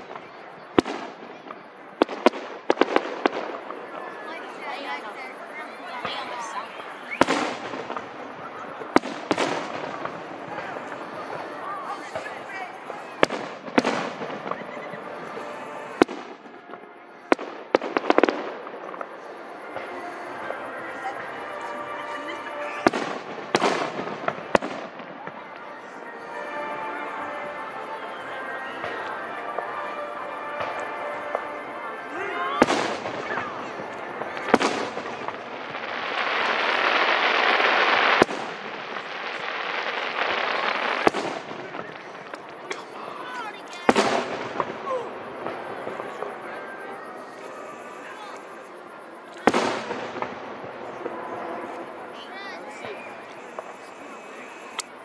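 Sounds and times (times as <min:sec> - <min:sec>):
fireworks bangs: 0:00.0 - 0:55.0
fireworks crackling spray: 0:00.0 - 0:55.0.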